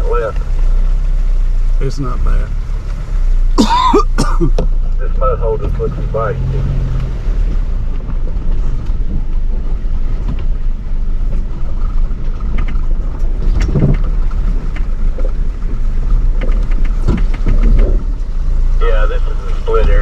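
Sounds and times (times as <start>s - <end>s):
off-road vehicle engine rumbling: 0.0s - 20.0s.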